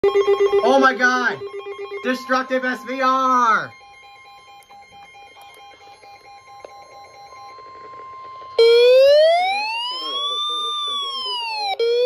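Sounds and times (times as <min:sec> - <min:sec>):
electronic siren wail: 0:00.0 - 0:12.0
steady warning alarm tone: 0:00.0 - 0:12.0.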